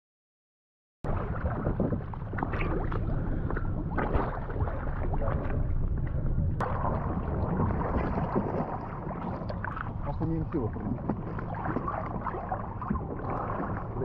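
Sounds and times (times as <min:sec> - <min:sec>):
river water sloshing and splashing: 0:01.1 - 0:14.0
steady low rumble: 0:01.1 - 0:14.0.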